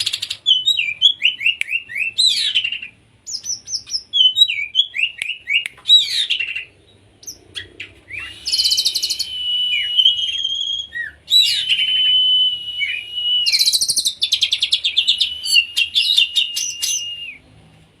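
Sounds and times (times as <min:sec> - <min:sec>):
songbird singing with trills: 0:00.0 - 0:17.4.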